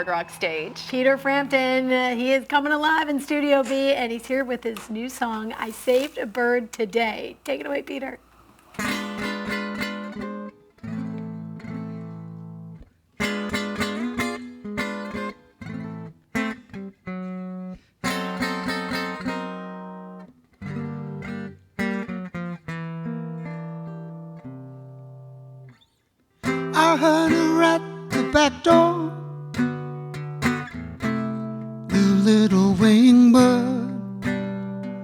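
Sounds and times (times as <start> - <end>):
acoustic guitar chords: 0.0 - 25.8, 26.4 - 35.0.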